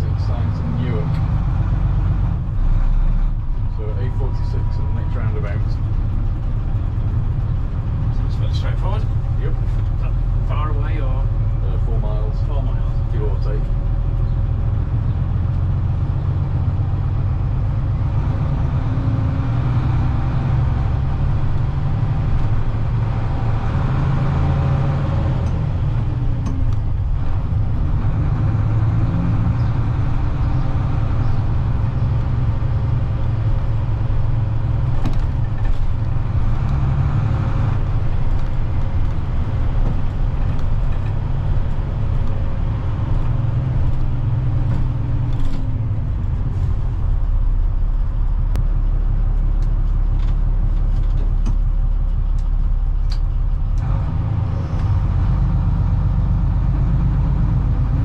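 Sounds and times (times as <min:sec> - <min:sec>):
diesel coach engine running: 0:00.0 - 0:58.0
road noise: 0:00.0 - 0:58.0.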